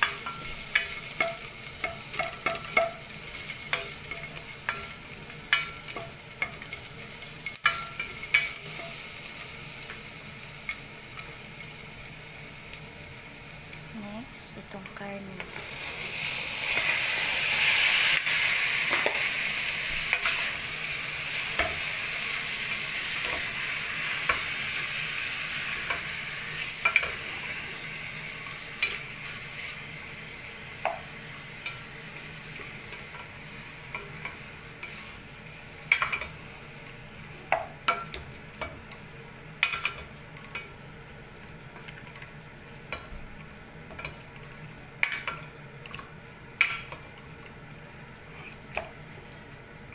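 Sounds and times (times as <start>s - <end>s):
meat sizzling in oil: 0.0s - 49.9s.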